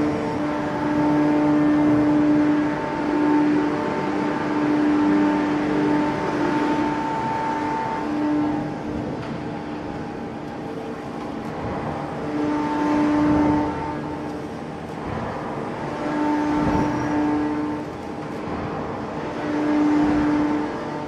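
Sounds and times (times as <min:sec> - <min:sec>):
deep droning tone: 0:00.0 - 0:21.0
steady industrial hum: 0:00.0 - 0:21.0.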